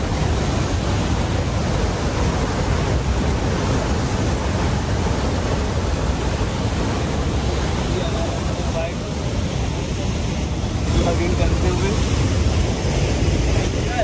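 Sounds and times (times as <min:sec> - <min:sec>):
rushing falling water: 0:00.0 - 0:14.0.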